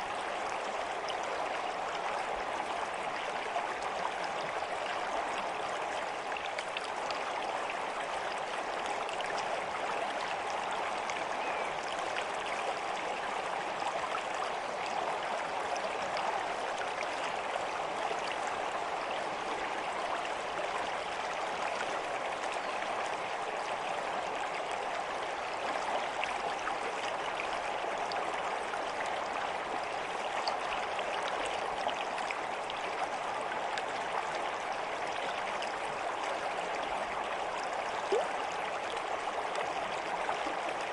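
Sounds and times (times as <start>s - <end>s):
stream flowing with splashes: 0.0s - 40.9s.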